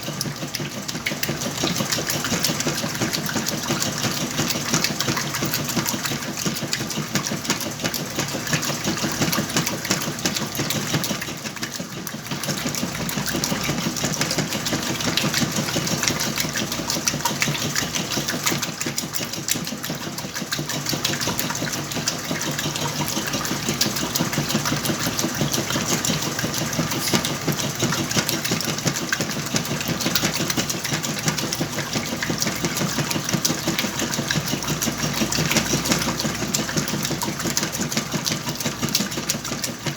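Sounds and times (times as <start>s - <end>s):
washing machine clatter: 0.0s - 39.9s
washing machine hum: 0.0s - 39.9s.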